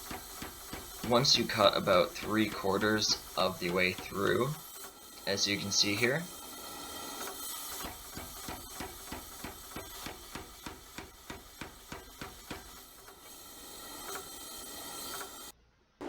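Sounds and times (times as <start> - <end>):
power hammer striking steel: 0.0 - 15.5
steady machine noise: 0.0 - 15.5.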